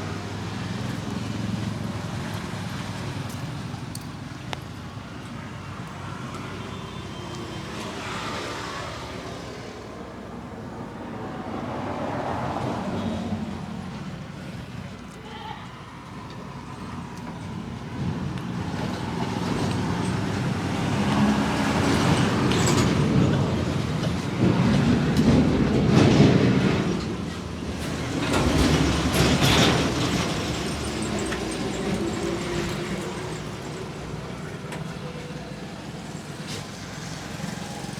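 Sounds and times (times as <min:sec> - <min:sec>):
road traffic passing: 0:00.0 - 0:37.9.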